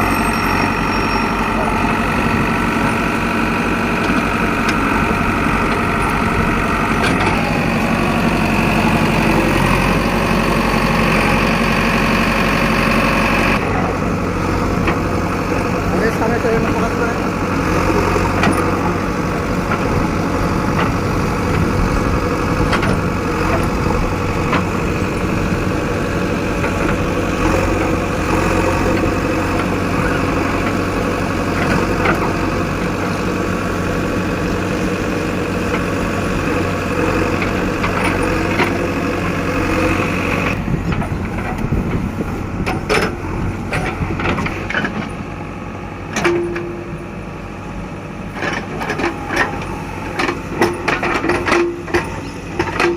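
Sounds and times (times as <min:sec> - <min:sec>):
backhoe diesel engine running: 0:00.0 - 0:52.9.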